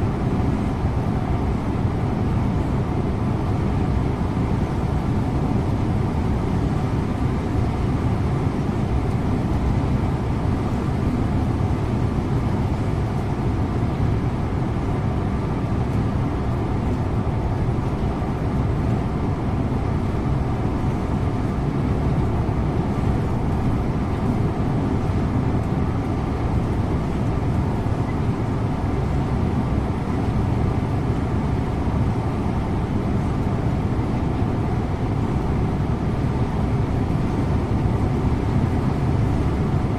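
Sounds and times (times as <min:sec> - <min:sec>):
bus engine drone: 0:00.0 - 0:39.9
road and tyre noise: 0:00.0 - 0:39.9.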